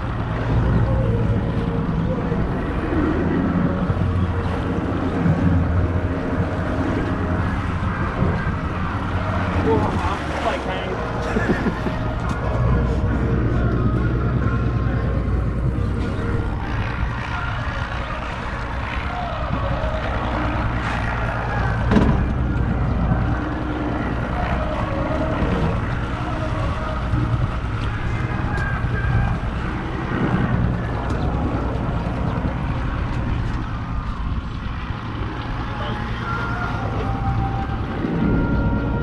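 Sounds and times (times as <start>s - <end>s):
boat engine running: 0.0s - 39.0s
water noise: 0.0s - 39.0s
wind: 0.0s - 39.0s.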